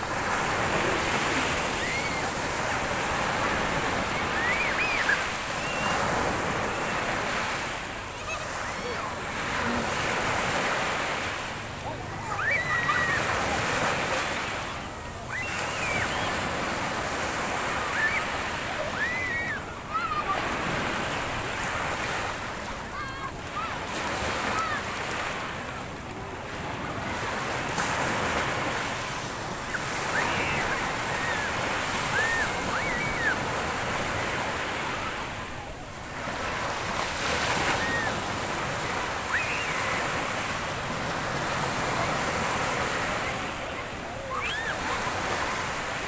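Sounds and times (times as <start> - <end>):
sea surf breaking: 0.0 - 46.0.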